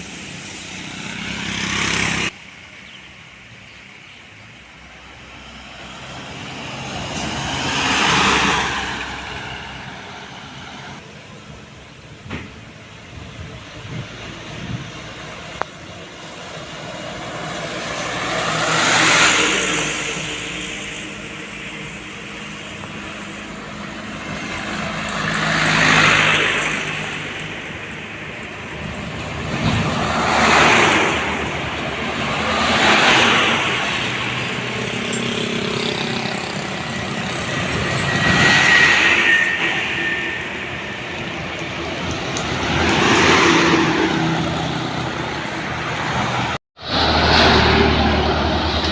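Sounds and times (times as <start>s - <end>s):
vehicles passing by: 0.0s - 48.9s.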